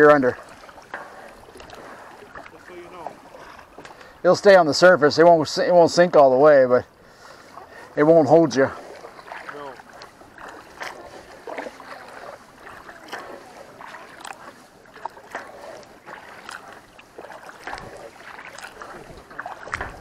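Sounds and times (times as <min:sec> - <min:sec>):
kayak paddle splashing: 0:00.0 - 0:20.0
water lapping at hull: 0:00.0 - 0:20.0.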